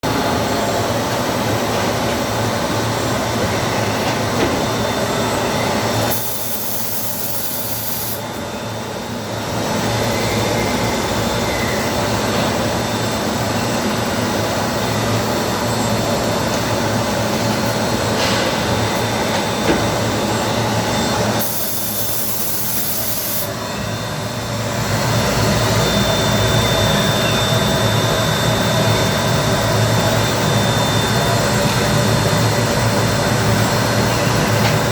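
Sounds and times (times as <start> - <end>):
lathe machining noise: 0.1 - 34.9.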